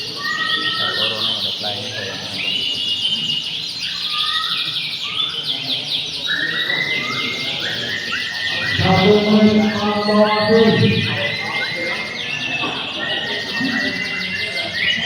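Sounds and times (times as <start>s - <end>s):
canaries singing trills: 0.0s - 15.0s.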